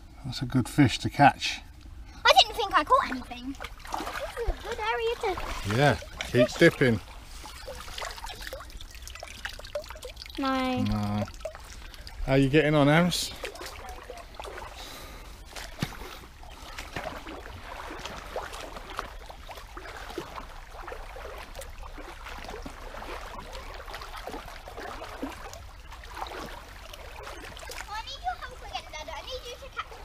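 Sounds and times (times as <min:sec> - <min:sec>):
stream water trickling: 0:00.0 - 0:30.0
small splashes of wading: 0:01.6 - 0:30.0.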